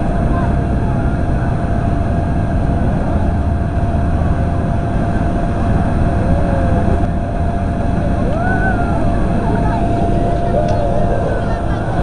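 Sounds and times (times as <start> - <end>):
faint constant whine: 0.0 - 12.0
low outdoor rumble: 0.0 - 12.0.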